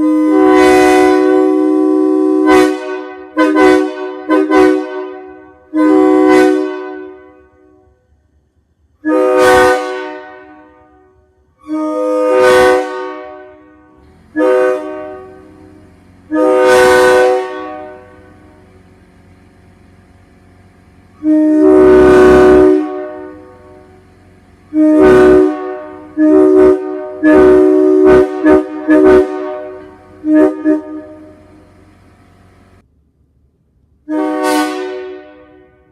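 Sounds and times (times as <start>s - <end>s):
locomotive air horn blasts: 0.0s - 8.1s, 9.0s - 31.9s, 34.0s - 35.9s.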